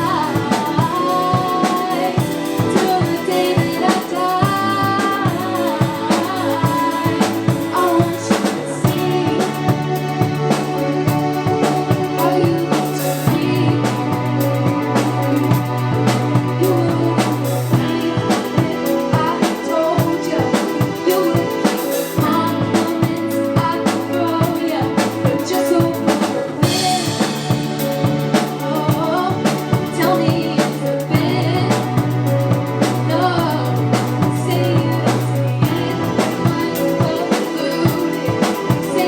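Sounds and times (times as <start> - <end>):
pop song: 0.0 - 39.0.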